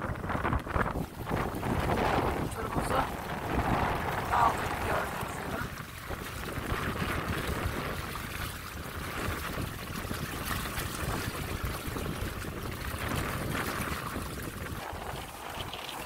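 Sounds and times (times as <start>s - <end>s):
water rushing past boat stern: 0.0s - 16.0s
wind rumble on microphone: 0.0s - 16.0s.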